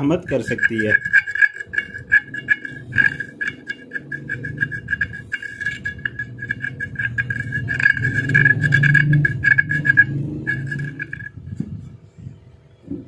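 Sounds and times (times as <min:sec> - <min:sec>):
screwdriver scraping metal: 0:00.0 - 0:11.7.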